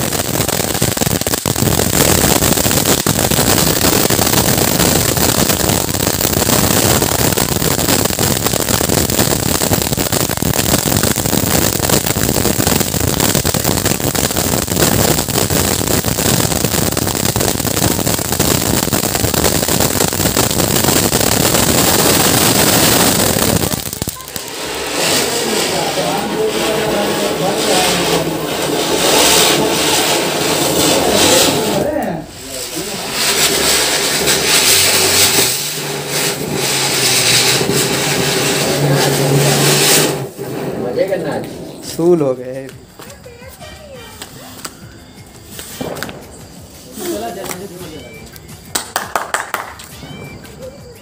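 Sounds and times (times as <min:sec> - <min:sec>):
firework fountain hissing and crackling: 0:00.0 - 0:51.0.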